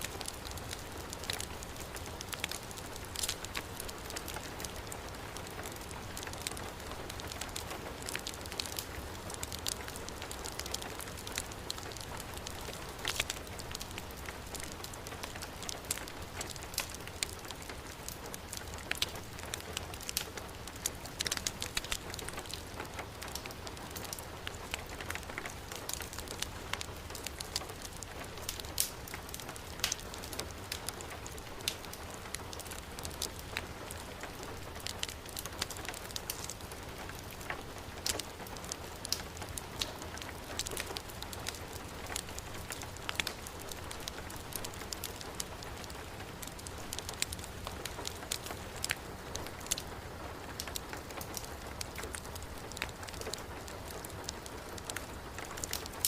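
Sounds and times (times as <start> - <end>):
fire crackling and popping: 0.0 - 56.0
heavy rain falling: 0.0 - 56.0.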